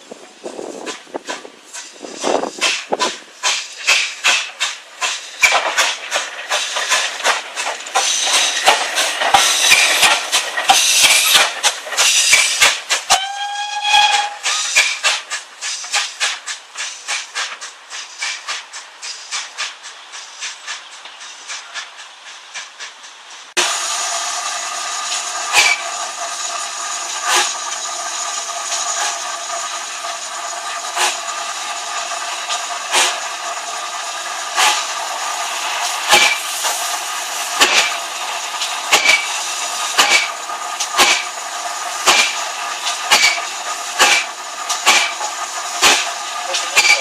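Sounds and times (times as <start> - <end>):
train rushing noise: 0.0 - 47.0
wheels clicking over rail joints: 0.0 - 47.0.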